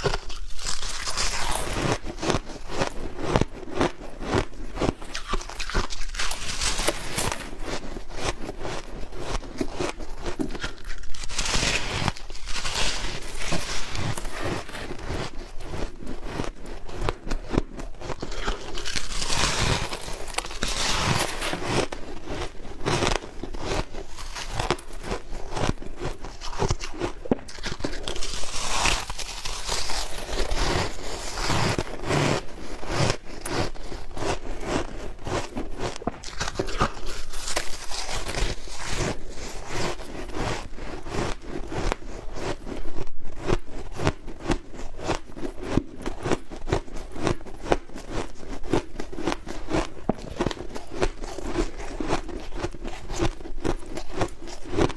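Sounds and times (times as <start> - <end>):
person biting crunchy ice: 0.0 - 54.9.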